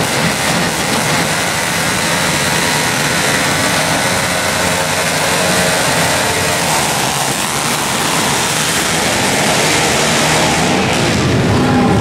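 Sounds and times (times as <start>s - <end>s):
pit bike engines running: 0.0s - 12.0s.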